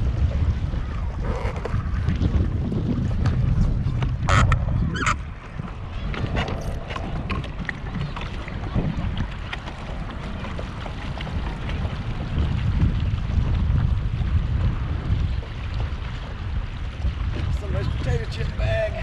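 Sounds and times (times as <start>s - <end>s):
wind buffeting microphone: 0.0s - 19.0s
small clicks and water ticks: 1.2s - 18.6s.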